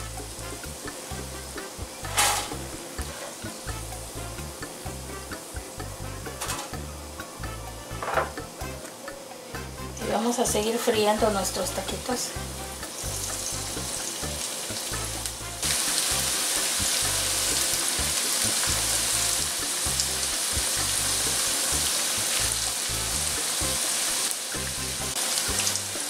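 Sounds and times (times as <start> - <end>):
food sizzling in hot oil: 0.0 - 8.8, 9.4 - 26.0.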